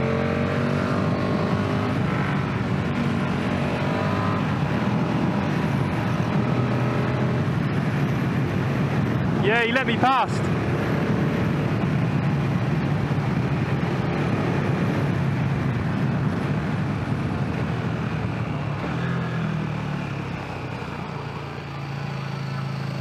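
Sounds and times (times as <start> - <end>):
rush of wind noise: 0.0 - 20.8
motorcycle engine running: 0.0 - 23.0.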